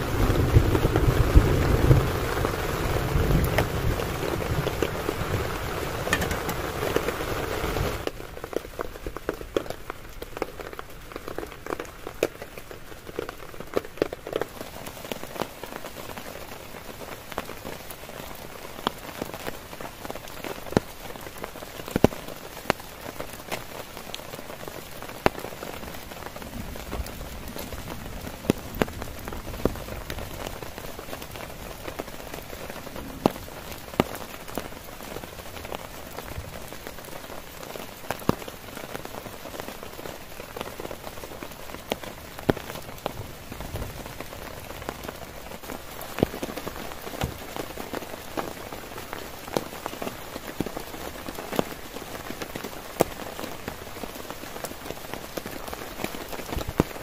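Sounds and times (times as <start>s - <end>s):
heavy rain on a tent: 0.0s - 57.0s.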